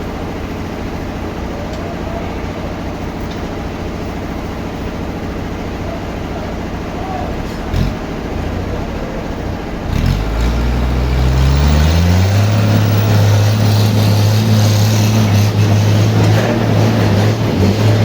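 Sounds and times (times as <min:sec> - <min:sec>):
engine speeding up: 0:00.0 - 0:18.0.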